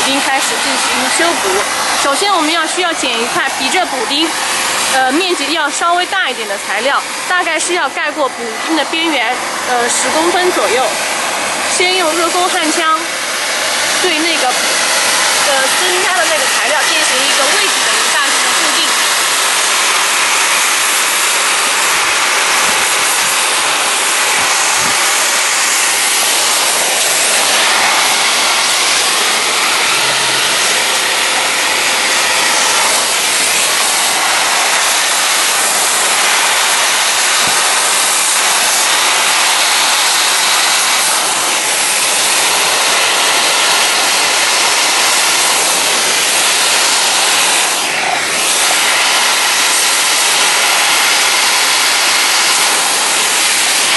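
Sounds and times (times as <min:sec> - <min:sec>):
hot-air welding gun hissing: 0:00.0 - 0:53.9.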